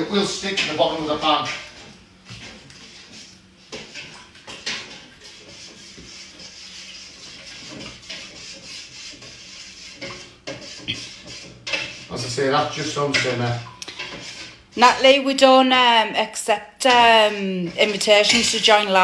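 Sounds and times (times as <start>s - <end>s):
spoon stirring in a metal pot: 0.4s - 15.2s, 16.9s - 19.0s.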